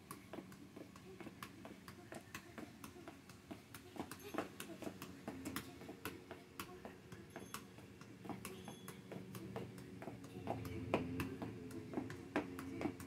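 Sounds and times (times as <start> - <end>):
faint steady hum: 0.0 - 13.0
soccer ball taps: 0.0 - 13.0.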